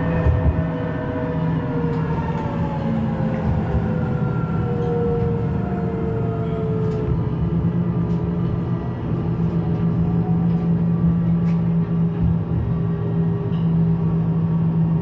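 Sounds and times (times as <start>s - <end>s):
low hum from tram: 0.0s - 15.0s
tram electric drive whining: 0.0s - 15.0s.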